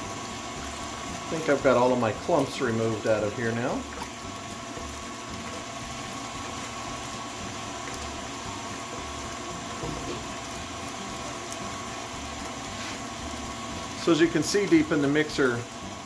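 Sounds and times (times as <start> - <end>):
stand mixer motor whine: 0.0 - 16.0.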